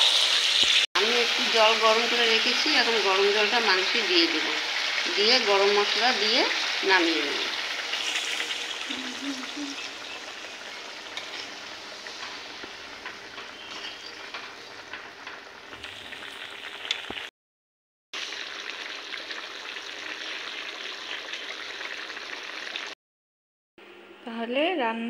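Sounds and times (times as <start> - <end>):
curry bubbling and sizzling: 0.0 - 17.3, 18.2 - 23.0.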